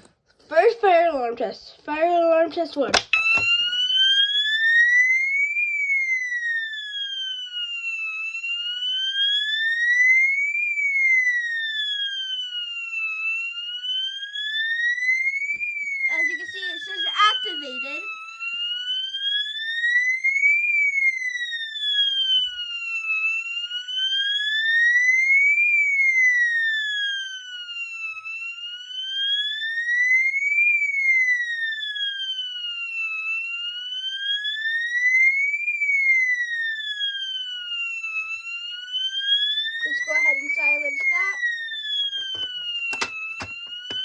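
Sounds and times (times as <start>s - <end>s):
fire alarm wailing siren: 0.0s - 44.0s.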